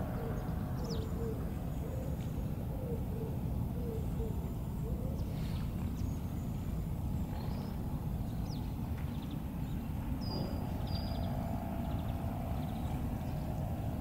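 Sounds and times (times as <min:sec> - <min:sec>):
bird chirps and trills: 0:00.0 - 0:14.0
steady low rumble: 0:00.0 - 0:14.0.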